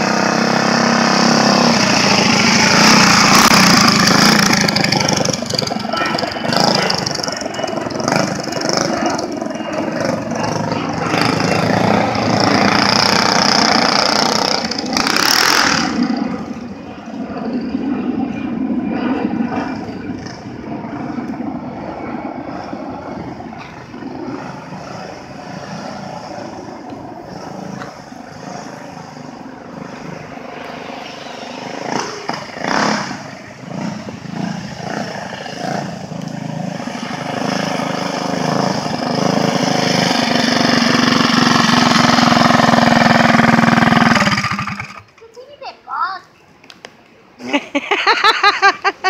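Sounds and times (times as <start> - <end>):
mini bike engine running: 0.0 - 17.7, 18.5 - 45.6.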